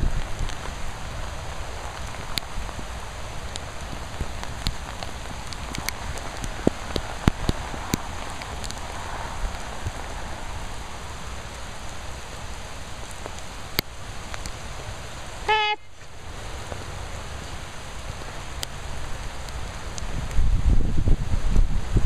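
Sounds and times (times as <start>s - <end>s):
raindrop taps near microphone: 0.0s - 15.0s, 15.9s - 21.1s
steady rain falling: 0.0s - 22.0s.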